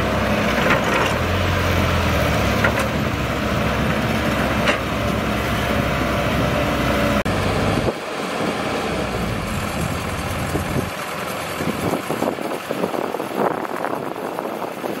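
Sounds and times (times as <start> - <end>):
diesel engines running: 0.0 - 15.0
dump truck driving over dirt: 0.0 - 15.0.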